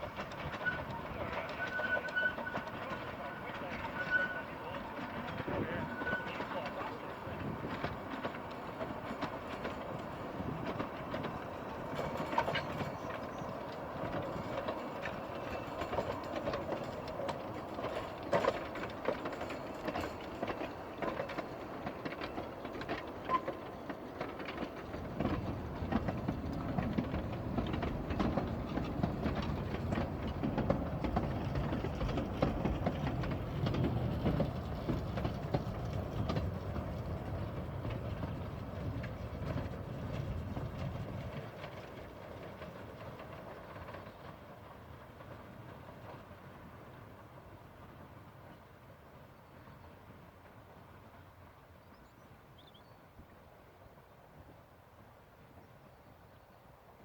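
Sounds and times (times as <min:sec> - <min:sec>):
train wheels clicking over rail joints: 0:00.0 - 0:51.4.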